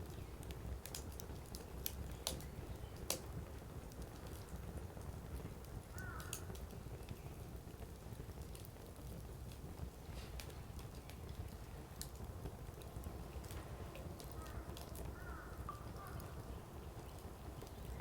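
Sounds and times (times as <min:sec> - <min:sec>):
firewood crackling and popping: 0:00.0 - 0:18.0
low rumble of flames: 0:00.0 - 0:18.0.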